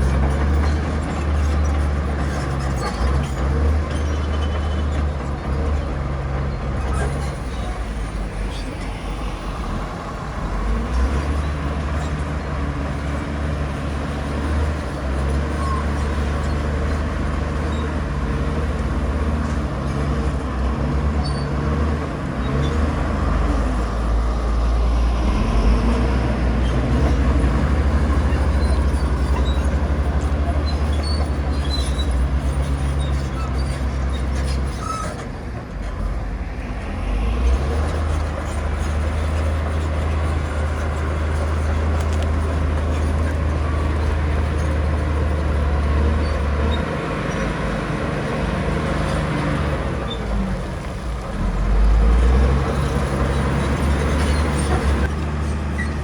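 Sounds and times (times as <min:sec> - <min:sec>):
heavy diesel machinery drone: 0:00.0 - 0:56.0.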